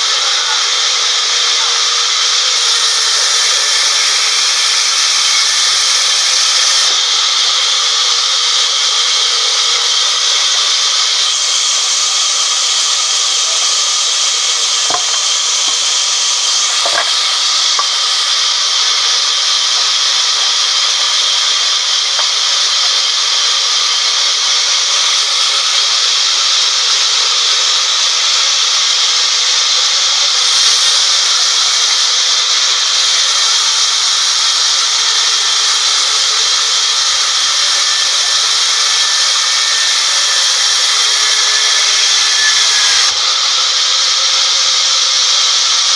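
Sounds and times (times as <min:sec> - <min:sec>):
band saw cutting log: 0:00.0 - 0:45.9.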